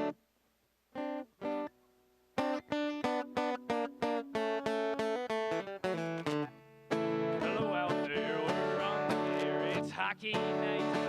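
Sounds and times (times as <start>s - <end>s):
guitar strummed rhythmically: 0.0s - 0.2s, 0.9s - 11.0s.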